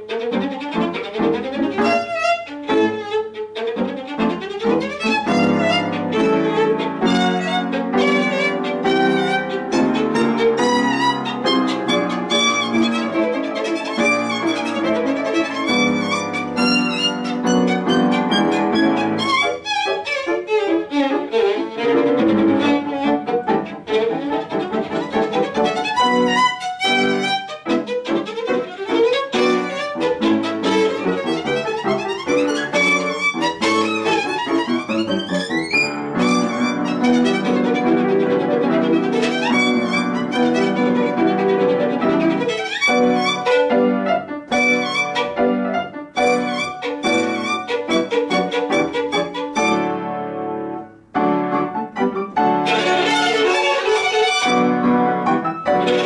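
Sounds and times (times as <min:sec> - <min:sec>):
violin playing fast passage: 0:00.0 - 0:50.1, 0:52.0 - 0:56.0
piano accompaniment: 0:00.0 - 0:56.0.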